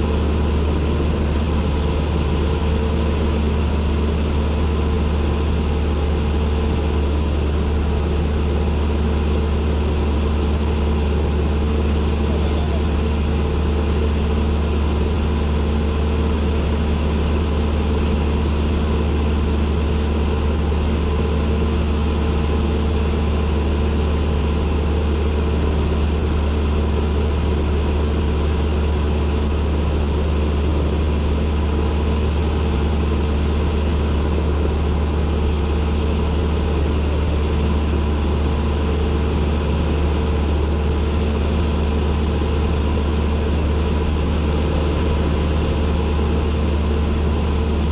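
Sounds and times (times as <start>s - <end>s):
propeller plane engine drone: 0.0s - 47.9s.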